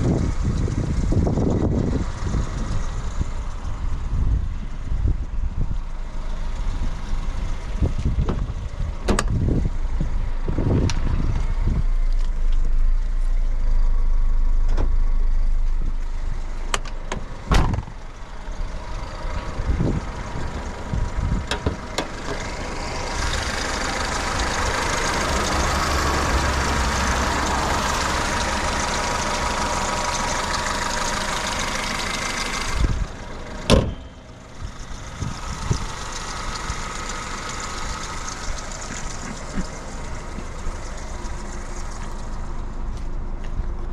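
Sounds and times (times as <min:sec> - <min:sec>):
car engine running in cabin: 0:00.0 - 0:43.9.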